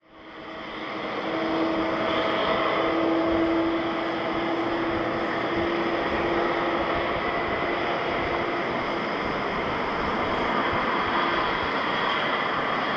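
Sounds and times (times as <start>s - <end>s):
jet engines roaring: 0.0s - 12.9s.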